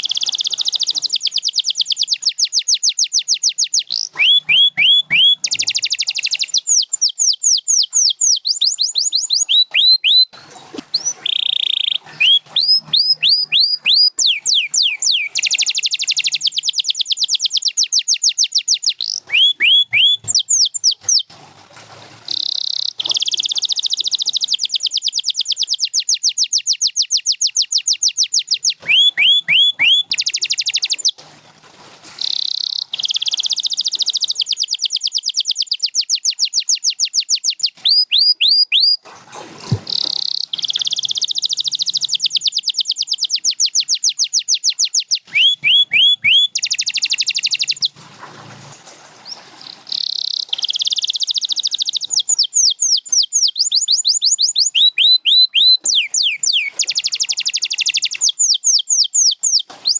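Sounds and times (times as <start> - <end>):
canary singing trills: 0.0 - 21.3, 22.3 - 31.2, 32.2 - 39.1, 39.7 - 48.0, 49.2 - 59.9.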